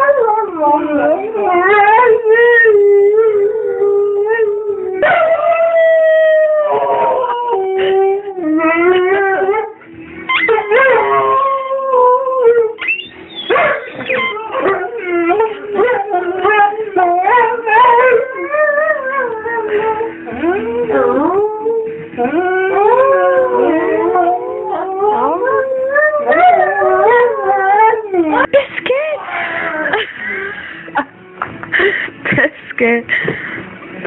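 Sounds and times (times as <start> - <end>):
dog howling: 0.0 - 28.5.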